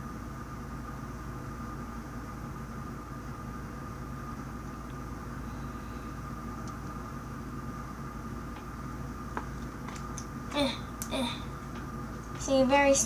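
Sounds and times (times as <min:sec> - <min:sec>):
faint high whine: 0:00.0 - 0:13.0
low hum and hiss: 0:00.0 - 0:13.0.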